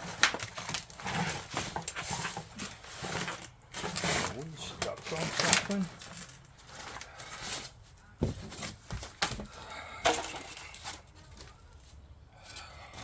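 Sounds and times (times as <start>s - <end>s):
cardboard and packing rustling: 0.0s - 13.0s.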